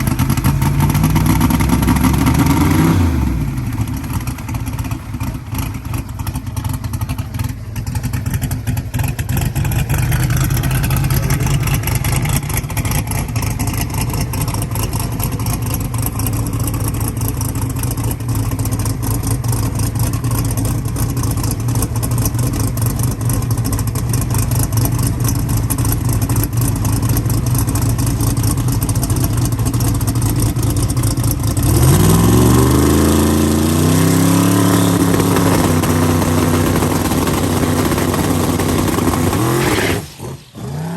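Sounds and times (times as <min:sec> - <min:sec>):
drag-race engine idling and revving: 0:00.0 - 0:40.9.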